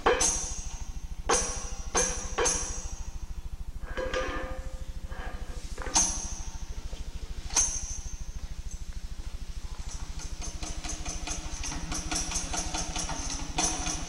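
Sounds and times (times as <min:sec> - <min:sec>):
rhythmic jingling percussion: 0:00.0 - 0:14.0
steady low hum: 0:00.0 - 0:14.0
struck metal percussion ringing: 0:00.0 - 0:14.0.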